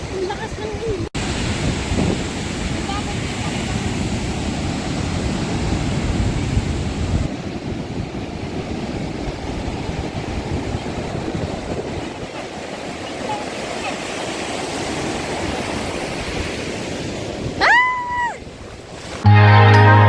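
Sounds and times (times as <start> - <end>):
wind buffeting microphone: 0.0 - 19.2
water rushing: 0.0 - 20.0.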